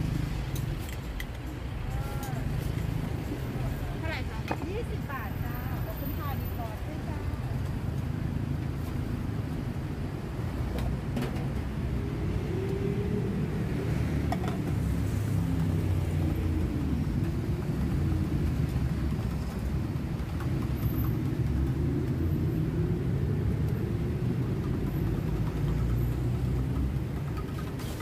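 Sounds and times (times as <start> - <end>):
heavy city traffic rumble: 0.0 - 28.0.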